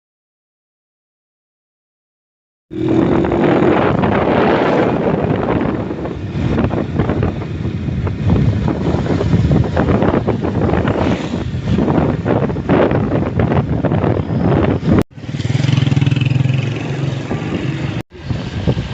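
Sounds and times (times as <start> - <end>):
vehicle running noise: 2.7 - 18.9
wind buffeting microphone: 2.7 - 18.9.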